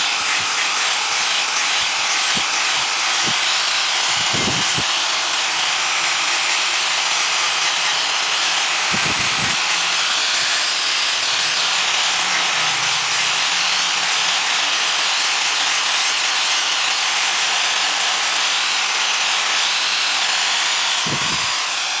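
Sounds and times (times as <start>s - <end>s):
power tool rasping wood: 0.0s - 22.0s.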